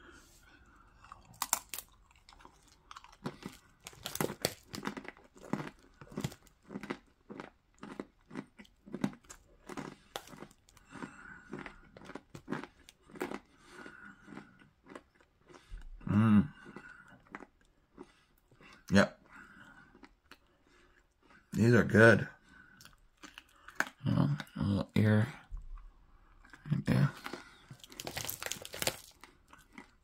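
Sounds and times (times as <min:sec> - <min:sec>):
person chewing crunchy pretzel: 0:00.0 - 0:21.6, 0:22.4 - 0:24.6, 0:25.7 - 0:30.0.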